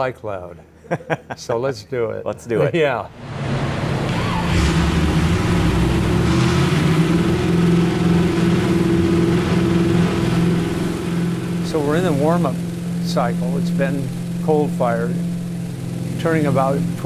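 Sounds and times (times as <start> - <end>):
engine running steadily: 3.1 - 17.0.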